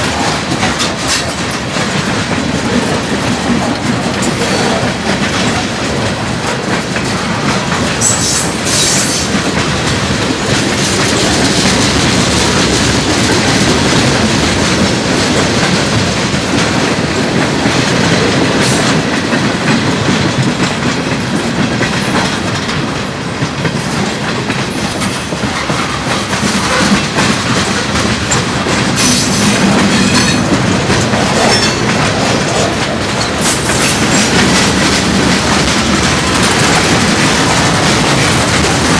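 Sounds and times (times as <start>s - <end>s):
train wheels clacking over rail joints: 0.0s - 38.9s.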